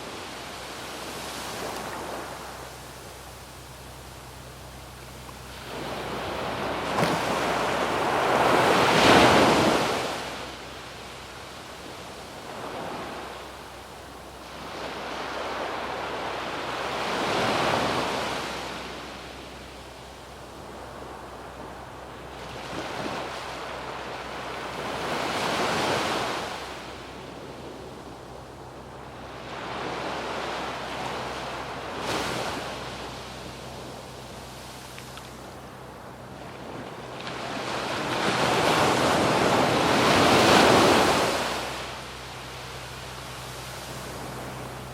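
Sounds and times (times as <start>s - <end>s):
ocean waves breaking on a beach: 0.0s - 44.9s.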